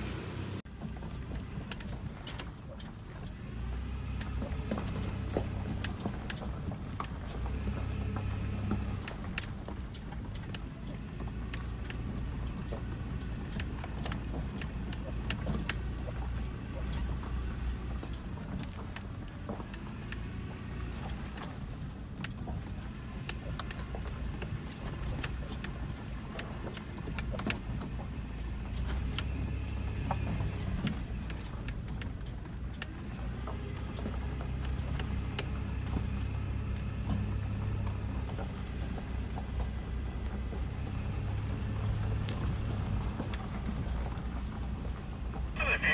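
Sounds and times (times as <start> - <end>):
engine droning low: 0.0 - 45.9
clicks and rattles in truck cab: 0.6 - 45.9.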